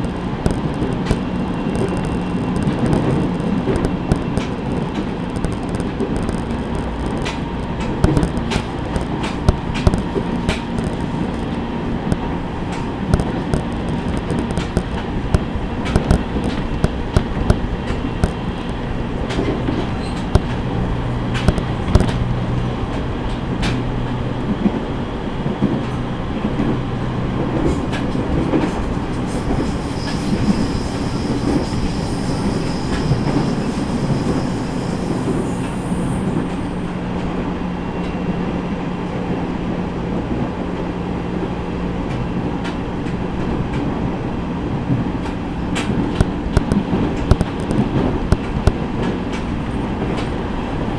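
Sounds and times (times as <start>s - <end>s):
train wheels clicking over rail joints: 0.0s - 38.2s, 42.0s - 50.9s.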